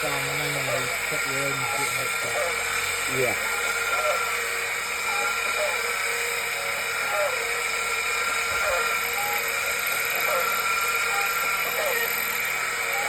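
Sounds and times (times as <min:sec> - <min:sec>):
electric grinder running: 0:00.0 - 0:13.0.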